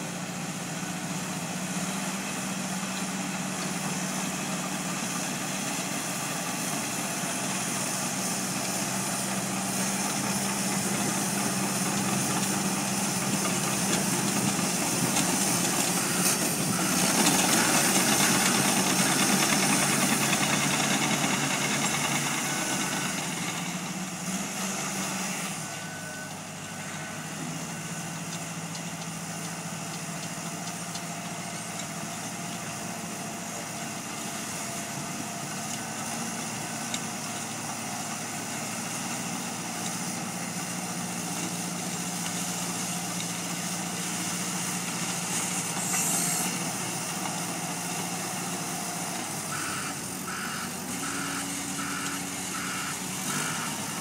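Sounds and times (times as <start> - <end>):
dozer diesel engine running: 0.0 - 54.0
tracks pushing gravel: 1.6 - 54.0.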